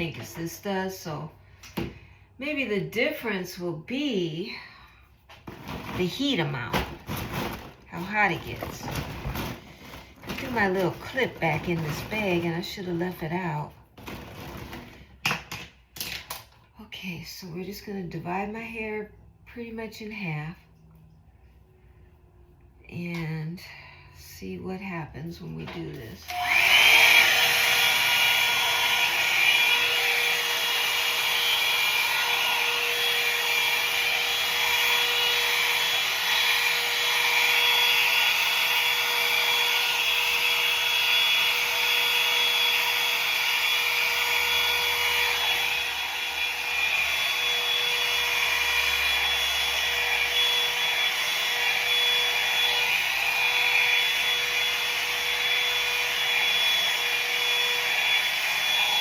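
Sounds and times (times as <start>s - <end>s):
hair dryer running: 0.0s - 16.6s, 25.2s - 59.0s.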